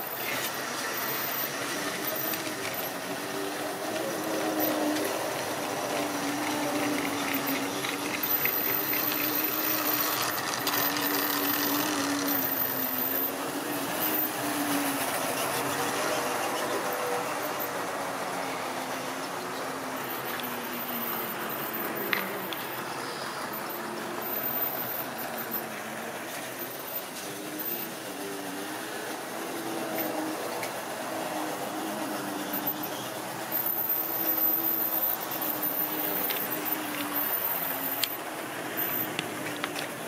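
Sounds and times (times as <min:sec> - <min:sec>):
model train motor hum: 0:00.0 - 0:40.0
wheels rattling on rails: 0:00.0 - 0:40.0.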